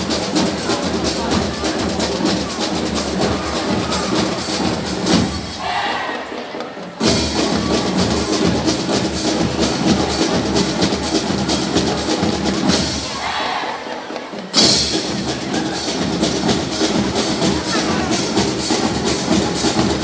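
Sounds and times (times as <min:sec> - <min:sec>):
drums and percussion: 0:00.0 - 0:20.0
marching band playing: 0:00.0 - 0:20.0.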